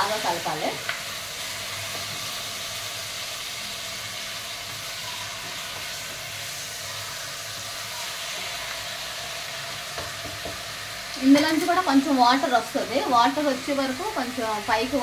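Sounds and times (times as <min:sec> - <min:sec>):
chicken and onion sizzling: 0:00.0 - 0:15.0.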